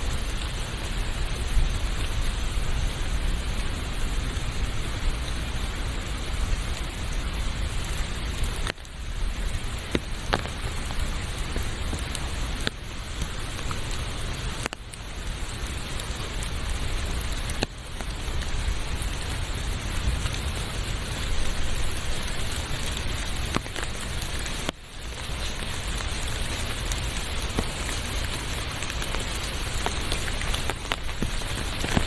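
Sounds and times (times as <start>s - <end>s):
heavy rain: 0.0s - 32.0s
sharp ticks of rain: 0.0s - 32.0s.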